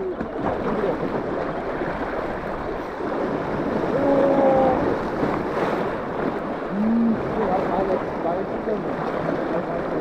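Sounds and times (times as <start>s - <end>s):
waves washing on reef: 0.0s - 10.0s.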